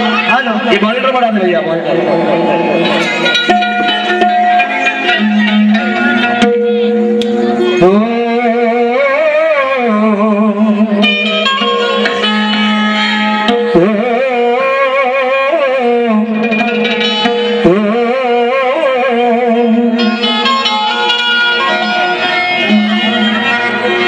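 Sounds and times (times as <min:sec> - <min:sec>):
harmonium chords: 0:00.0 - 0:24.0
singer holding wavering notes: 0:00.0 - 0:24.0.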